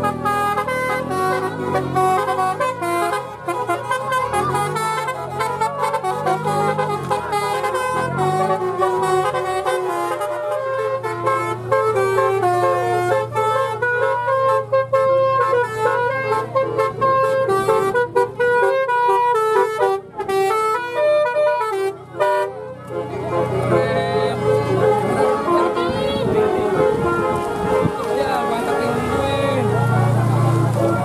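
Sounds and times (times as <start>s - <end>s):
musical bus horn melody: 0.0s - 31.0s
voices: 0.0s - 31.0s.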